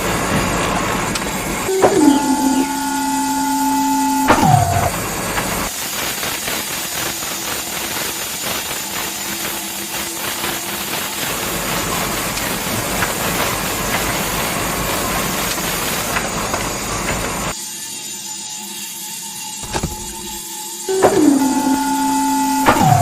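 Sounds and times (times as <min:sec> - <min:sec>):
small electric motor rattling: 0:04.4 - 0:23.0.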